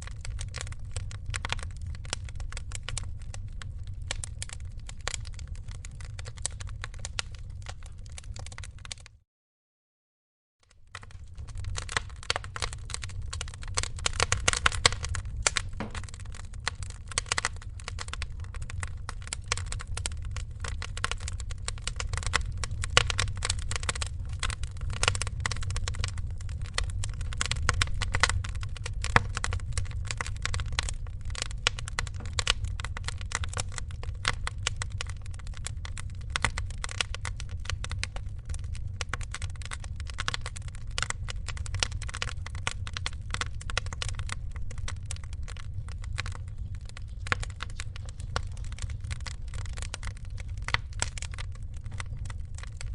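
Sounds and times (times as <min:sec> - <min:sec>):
wood fire crackling: 0:00.0 - 0:09.2, 0:10.7 - 0:52.9.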